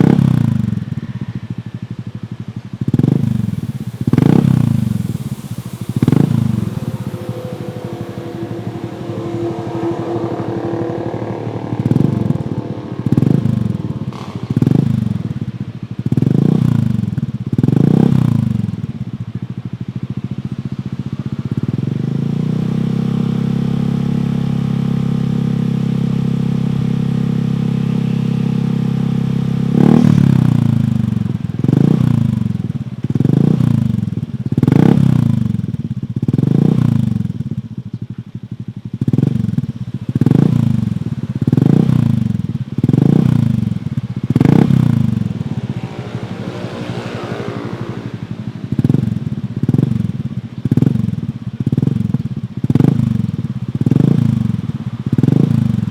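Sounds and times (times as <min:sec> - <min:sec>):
scooter engine revving: 0:00.0 - 0:55.9.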